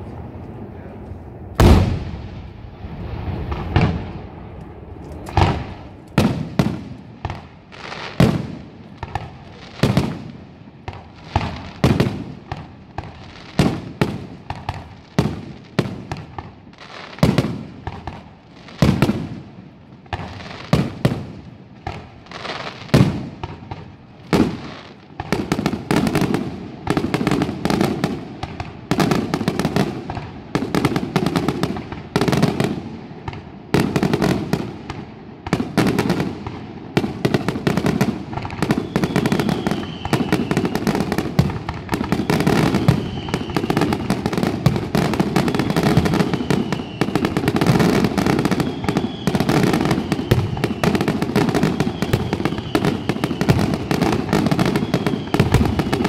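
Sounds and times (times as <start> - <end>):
fireworks bursting with echo: 0.0 - 56.0.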